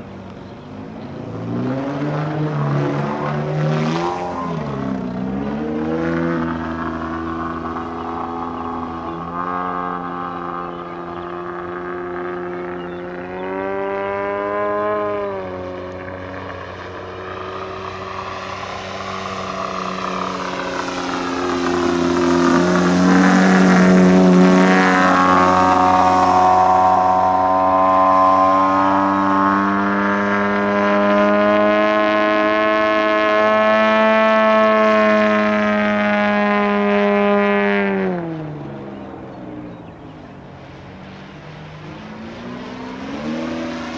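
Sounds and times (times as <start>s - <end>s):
model plane engine and propeller: 0.0s - 43.9s.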